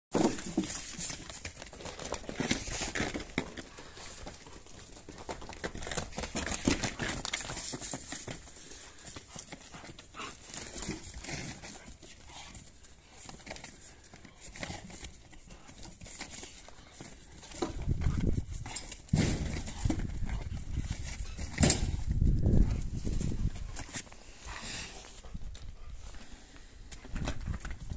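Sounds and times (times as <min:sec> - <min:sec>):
hooves thudding on ground: 0:00.2 - 0:27.9.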